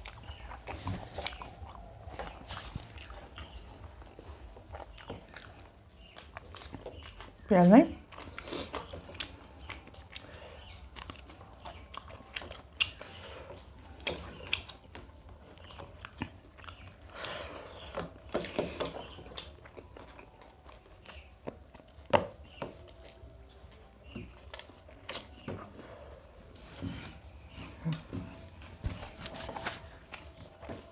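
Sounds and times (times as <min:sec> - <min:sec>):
people chewing with mouth sounds: 0:00.0 - 0:30.9.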